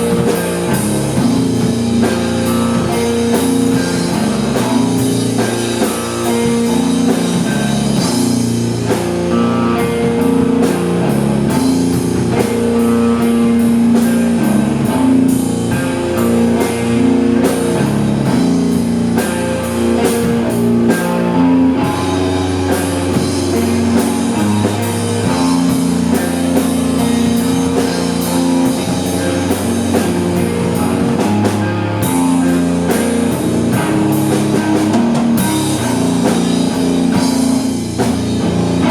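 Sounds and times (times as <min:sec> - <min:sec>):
drum kit steady beat: 0:00.0 - 0:38.9
electric guitar chords: 0:00.0 - 0:38.9.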